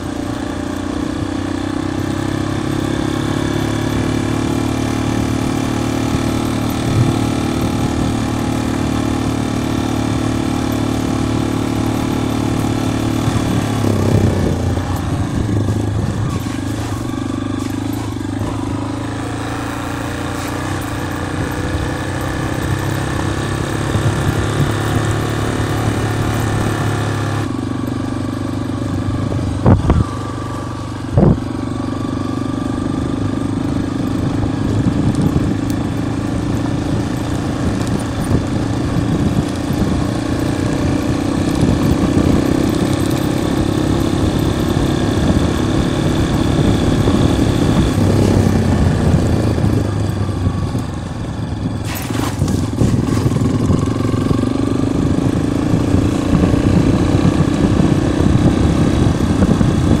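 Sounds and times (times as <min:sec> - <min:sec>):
motorcycle engine running: 0:00.0 - 1:00.0.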